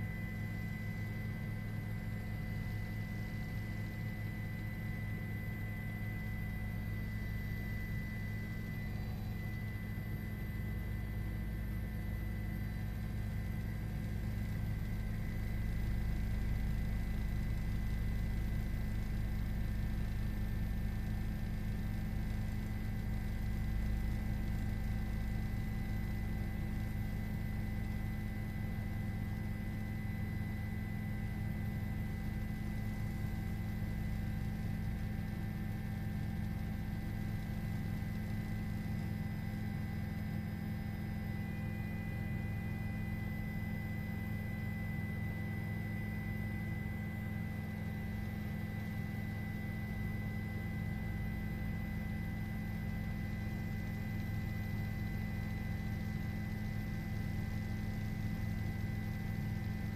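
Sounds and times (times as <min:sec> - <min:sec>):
faint high steady tones: 0:00.0 - 0:13.4, 0:25.0 - 0:59.9
electrical hum: 0:00.0 - 0:59.9.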